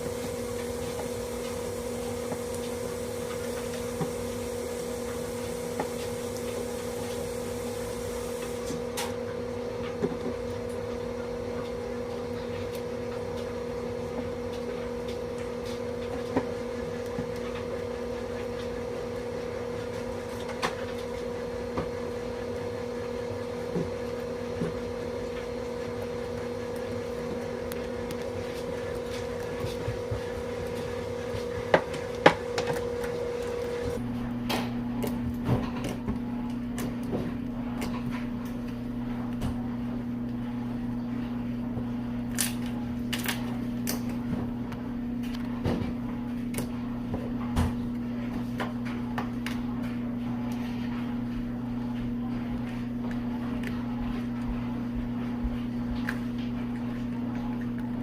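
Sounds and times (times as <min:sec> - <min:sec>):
electrical hum: 0:00.0 - 0:58.0.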